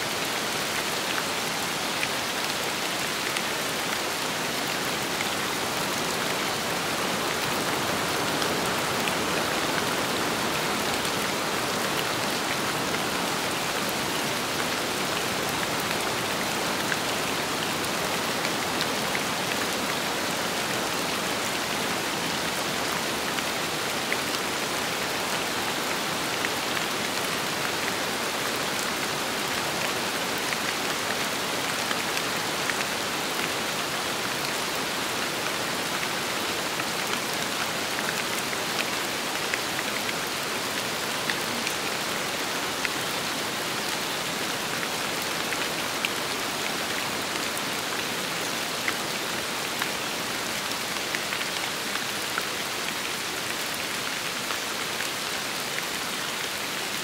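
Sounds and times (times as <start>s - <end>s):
wind: 0.0s - 57.0s.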